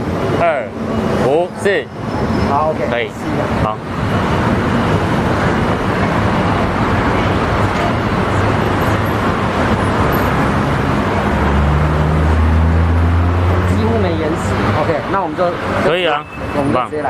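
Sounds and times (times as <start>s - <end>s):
road traffic roar: 0.0s - 17.0s.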